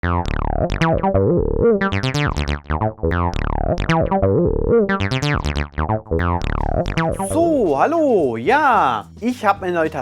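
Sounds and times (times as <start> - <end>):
looping synthesizer music: 0.0 - 9.2.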